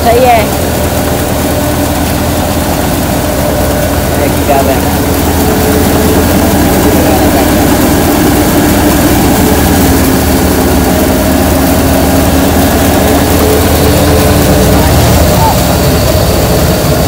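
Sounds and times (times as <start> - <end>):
thresher machine drone: 0.0 - 17.0.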